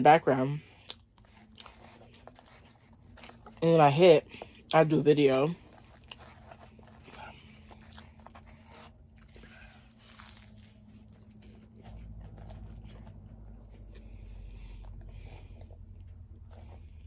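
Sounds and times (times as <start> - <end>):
person chewing food: 0.6 - 17.0.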